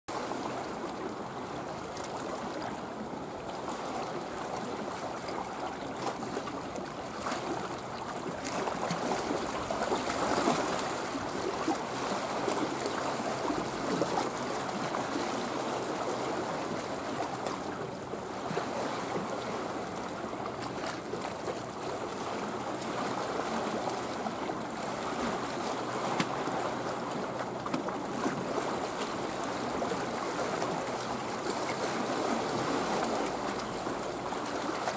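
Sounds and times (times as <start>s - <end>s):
small waves lapping and splashing: 0.1s - 34.9s.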